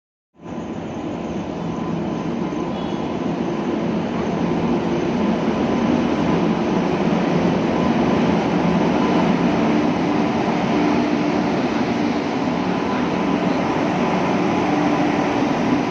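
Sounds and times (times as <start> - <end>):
freight train rumbling: 0.4 - 15.9.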